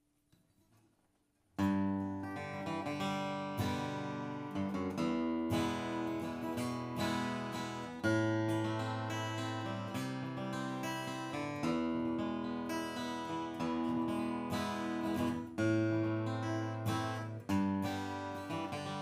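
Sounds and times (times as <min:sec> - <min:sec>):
acoustic guitar strummed chords: 0:01.6 - 0:19.0
picked guitar notes: 0:01.6 - 0:19.0.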